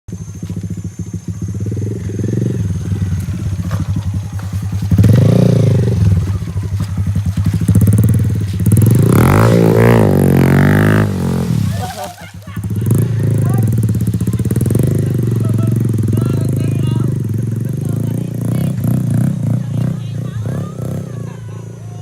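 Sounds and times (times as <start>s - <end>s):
motorcycle engine revving: 0.1s - 22.0s.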